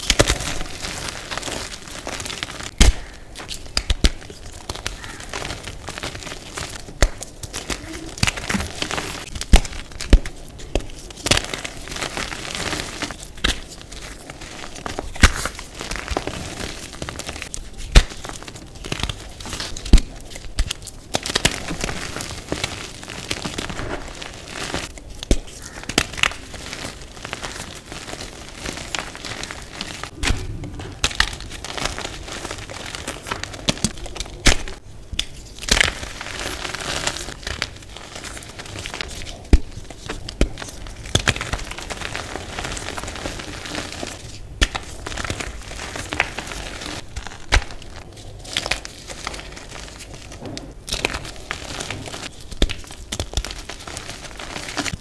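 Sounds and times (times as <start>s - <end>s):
chalk chunks snapping: 0.0s - 50.3s, 50.9s - 55.0s.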